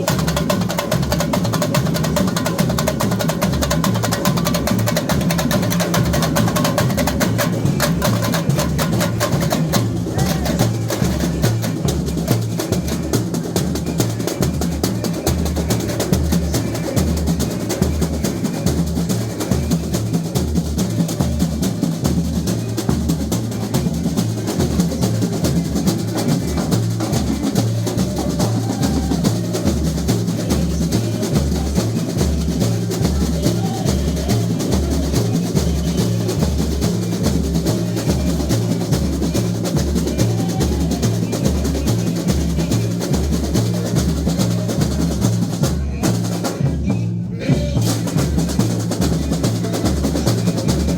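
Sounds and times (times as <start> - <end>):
deep bass drums beating: 0.0 - 50.9
samba drum band: 0.0 - 50.9
snare drums: 0.0 - 50.9.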